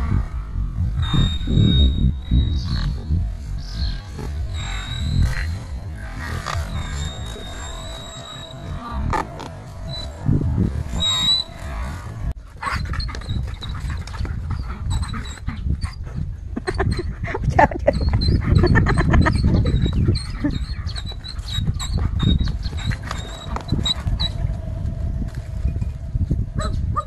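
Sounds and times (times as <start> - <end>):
low rumbling background: 0.0 - 27.0.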